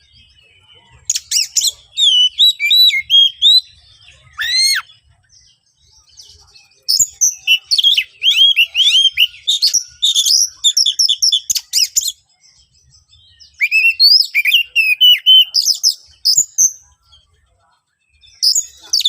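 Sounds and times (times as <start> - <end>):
bird singing whistled notes: 0.0 - 17.3, 18.0 - 19.0.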